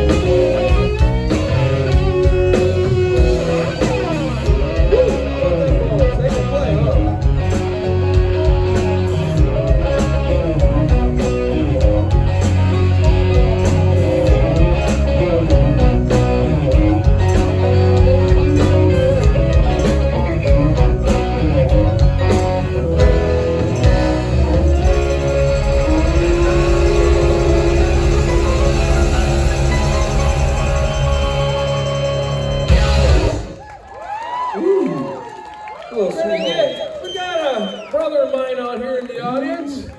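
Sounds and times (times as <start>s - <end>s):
steady drum beat: 0.0s - 33.6s
bass: 0.0s - 35.0s
guitar: 0.0s - 35.2s.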